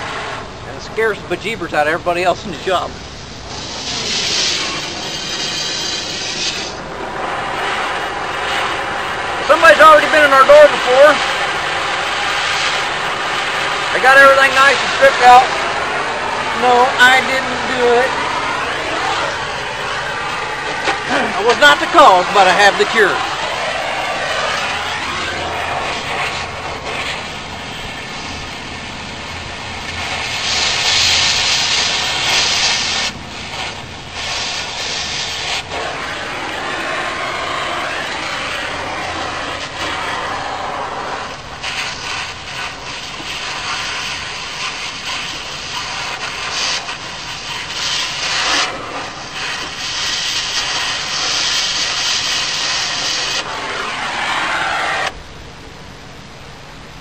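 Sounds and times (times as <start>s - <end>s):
cutting torch hissing: 0.0s - 55.2s.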